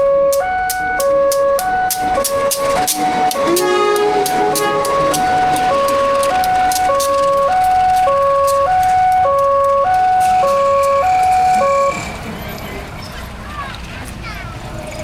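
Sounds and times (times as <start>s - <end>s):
railroad crossing alarm two-tone: 0.0s - 12.6s.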